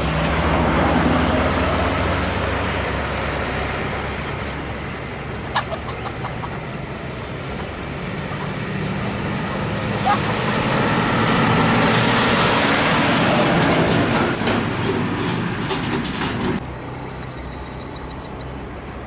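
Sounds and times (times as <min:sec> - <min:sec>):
diesel truck engine: 0:00.0 - 0:19.0
road traffic passing: 0:00.0 - 0:19.0.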